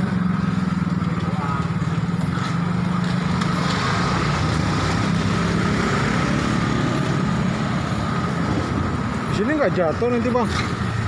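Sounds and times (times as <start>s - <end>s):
roadside traffic noise: 0.0s - 11.0s
vehicle engine running: 0.0s - 11.0s.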